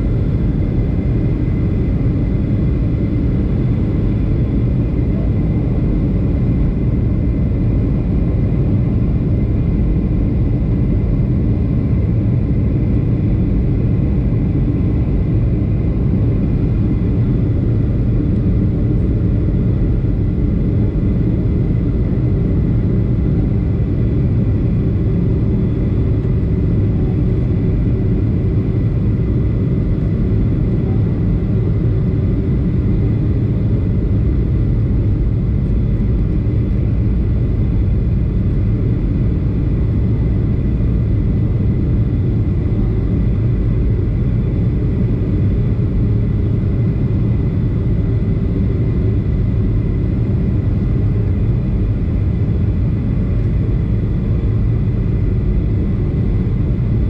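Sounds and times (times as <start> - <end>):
faint steady whine: 0.0 - 57.0
jet engines and airflow rumbling: 0.0 - 57.0.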